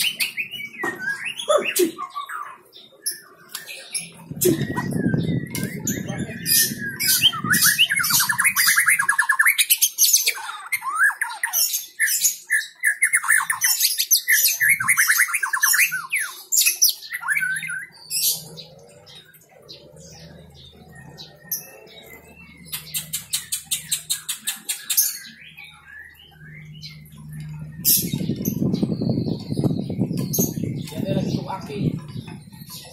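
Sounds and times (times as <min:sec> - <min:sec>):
bird singing trills and whistles: 0:00.0 - 0:32.9.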